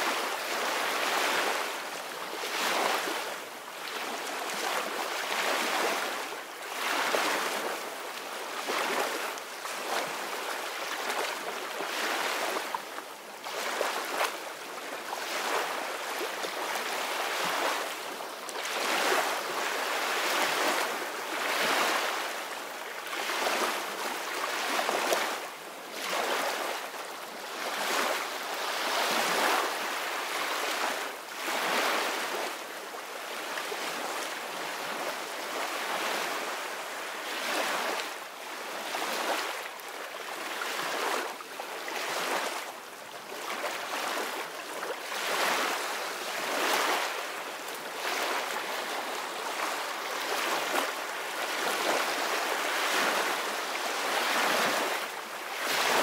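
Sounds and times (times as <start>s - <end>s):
waves washing up a beach: 0.0s - 56.0s.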